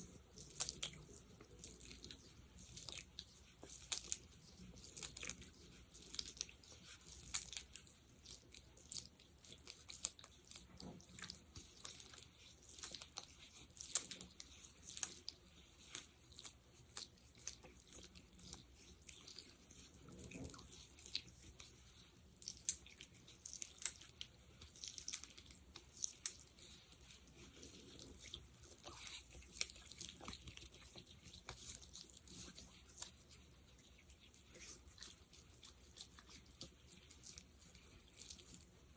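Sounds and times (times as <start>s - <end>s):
fingers working sticky gel: 0.0s - 38.9s.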